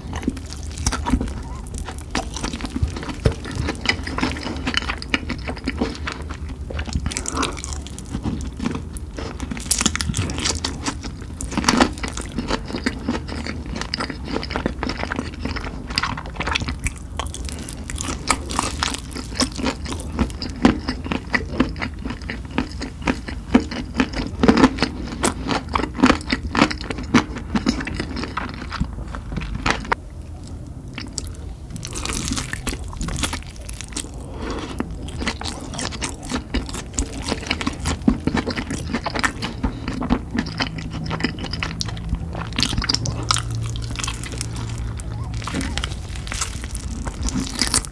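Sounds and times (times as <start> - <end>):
crunchy chewing: 0.0 - 47.9
steady low hum: 0.0 - 47.9.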